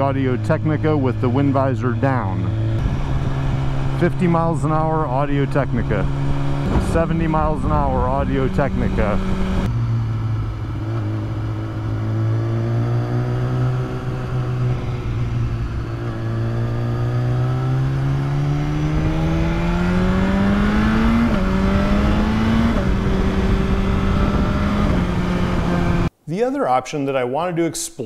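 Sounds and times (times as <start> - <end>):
motorcycle engine accelerating: 0.0 - 26.1
wind noise: 2.5 - 26.1.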